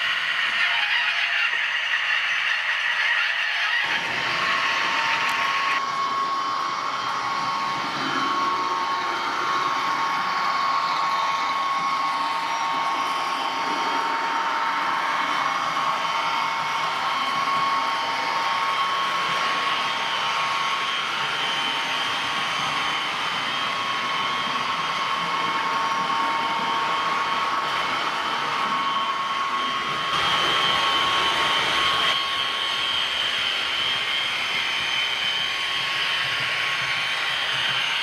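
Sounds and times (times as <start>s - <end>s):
model locomotive whirring: 0.0s - 38.0s.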